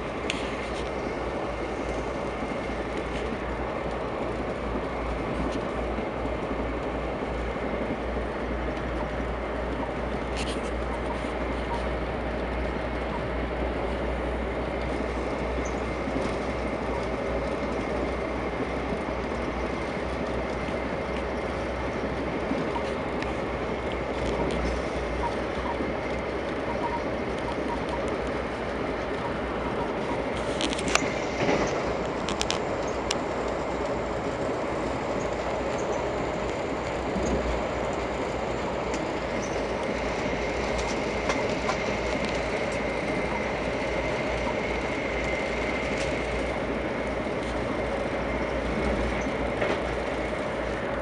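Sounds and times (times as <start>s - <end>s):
train rolling rumble: 0.0s - 51.0s.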